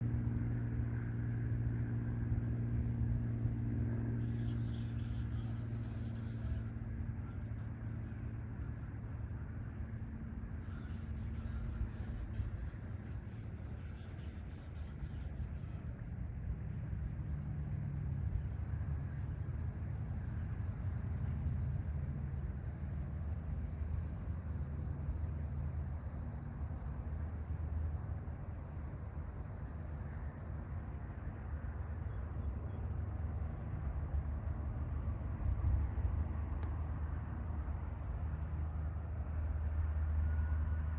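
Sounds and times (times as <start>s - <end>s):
insects trilling: 0.0s - 40.9s
low steady rumble: 0.0s - 40.9s.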